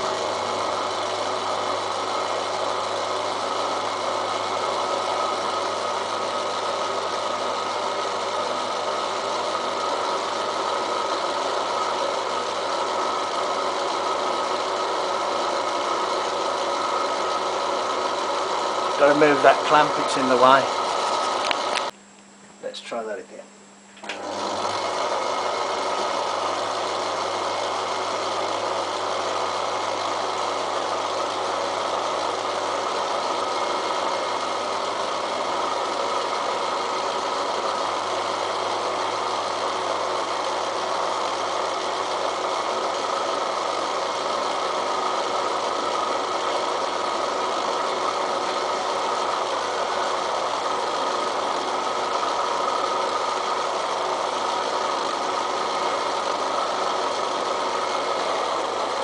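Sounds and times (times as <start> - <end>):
milling machine cutting steel: 0.0 - 21.9, 24.0 - 59.0.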